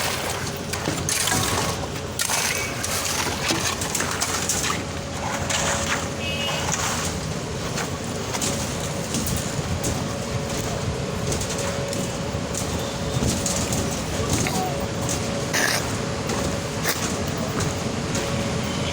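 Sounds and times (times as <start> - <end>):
concrete pump running: 0.0 - 18.9.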